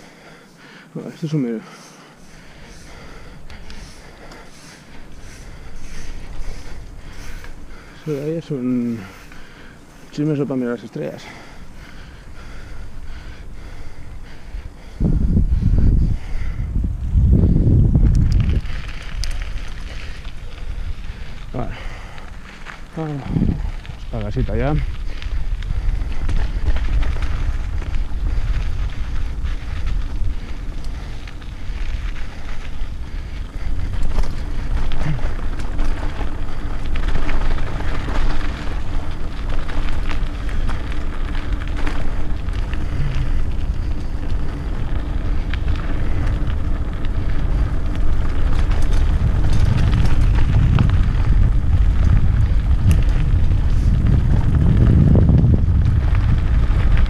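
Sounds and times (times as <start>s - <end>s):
bike rattling over bumps: 0.0s - 57.0s
bike tyre noise on dirt: 0.0s - 57.0s
wind buffeting microphone: 2.0s - 57.0s.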